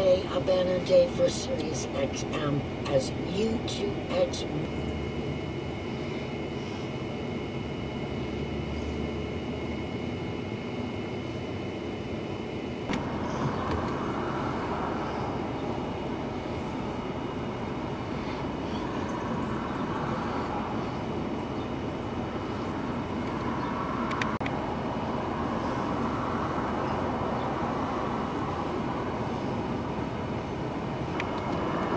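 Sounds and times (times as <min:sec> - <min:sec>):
outdoor rumble and hiss: 0:00.0 - 0:31.9.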